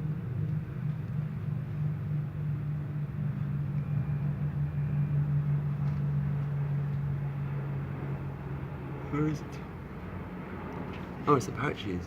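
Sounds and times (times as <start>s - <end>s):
helicopters droning: 0.0s - 12.0s.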